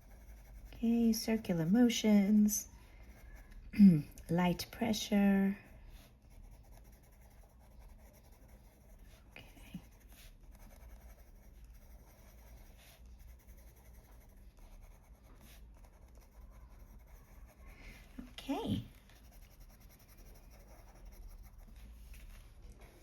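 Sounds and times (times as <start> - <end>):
pencil scratching on paper: 0.0 - 23.0.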